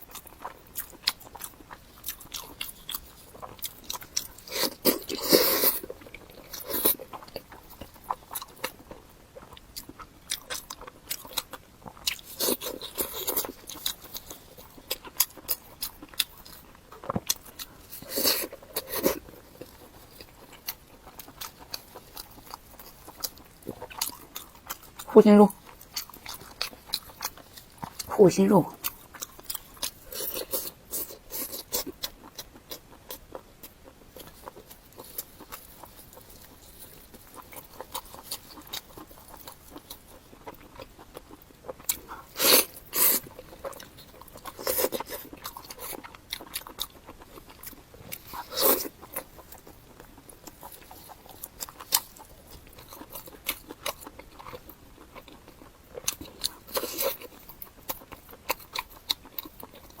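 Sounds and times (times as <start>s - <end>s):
crunchy chewing bites: 0.0s - 60.0s.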